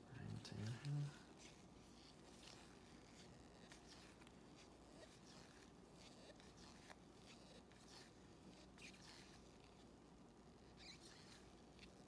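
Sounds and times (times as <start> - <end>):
low room hum: 0.0 - 12.0
trading cards sliding: 0.5 - 9.9, 10.6 - 12.0.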